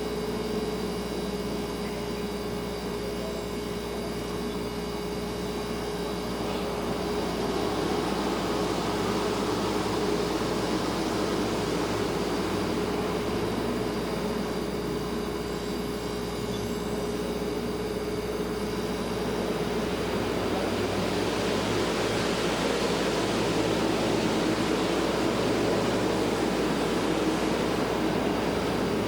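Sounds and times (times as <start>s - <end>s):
refrigerator humming: 0.0s - 29.0s
soft hiss: 4.3s - 29.0s.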